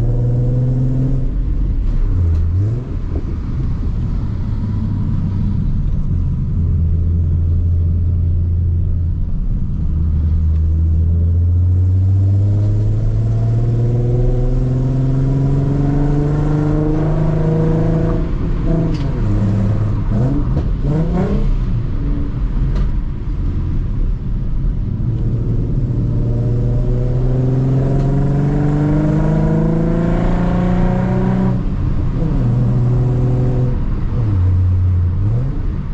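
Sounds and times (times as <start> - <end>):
car engine revving: 0.0 - 23.6, 24.3 - 35.9.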